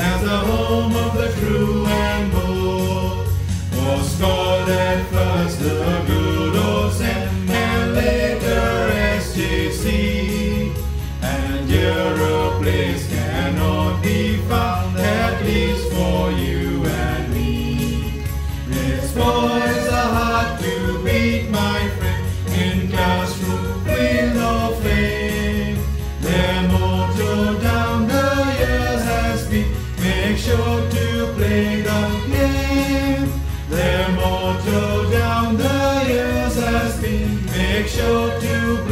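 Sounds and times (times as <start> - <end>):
choir singing: 0.0 - 38.9
instrumental backing with bass line: 0.0 - 38.9.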